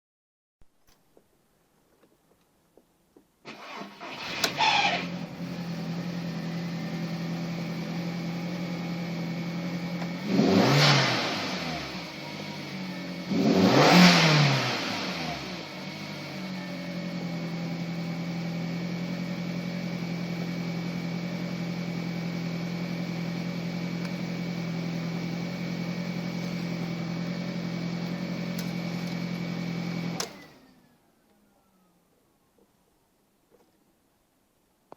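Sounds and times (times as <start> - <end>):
car engine starting and revving: 3.5 - 31.9.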